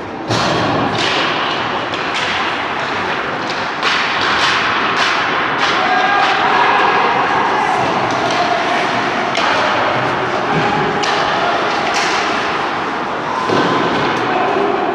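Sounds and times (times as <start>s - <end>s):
arena noise: 0.0s - 14.9s.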